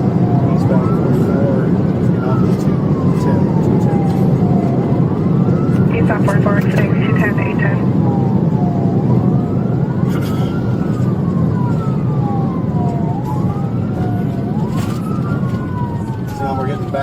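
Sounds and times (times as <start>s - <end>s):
engine and road rumble: 0.0s - 17.0s
police sirens wailing: 0.0s - 17.0s.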